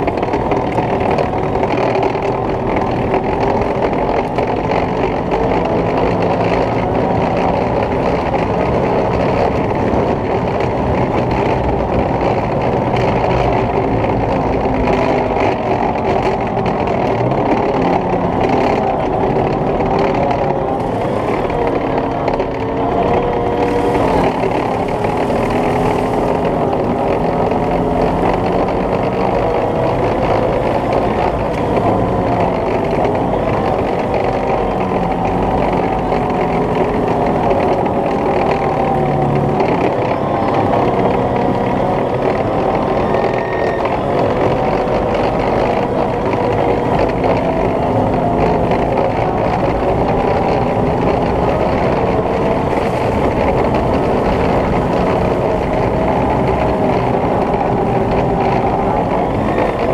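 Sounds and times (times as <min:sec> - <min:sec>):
tracked vehicle engine and tracks: 0:00.0 - 0:59.9.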